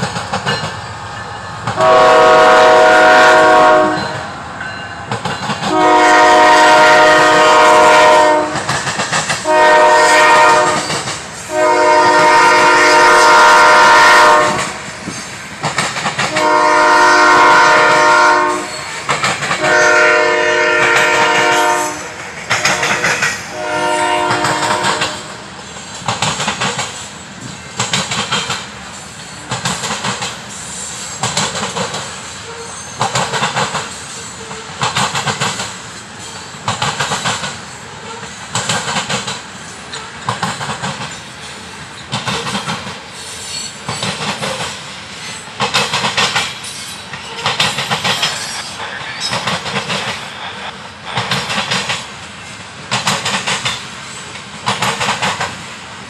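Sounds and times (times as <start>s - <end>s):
continuous train rumble: 0.0s - 56.0s.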